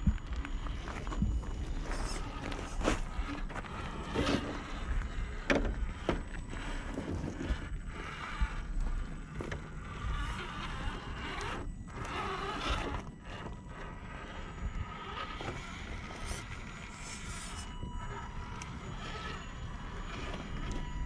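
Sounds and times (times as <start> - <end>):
low rumble: 0.0 - 21.0
rc car electric motor whining: 0.0 - 21.0.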